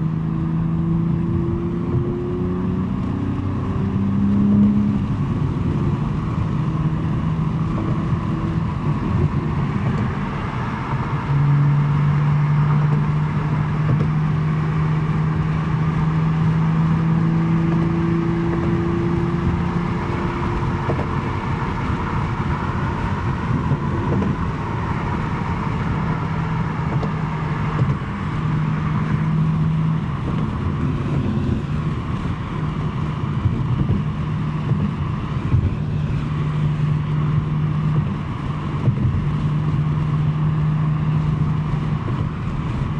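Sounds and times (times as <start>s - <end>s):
car exhaust drone: 0.0s - 42.9s
road and wind noise: 0.0s - 42.9s.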